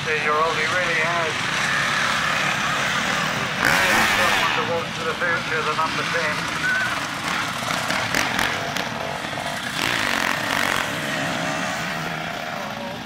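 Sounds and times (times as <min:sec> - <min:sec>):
motocross bike engines buzzing: 0:00.0 - 0:13.0.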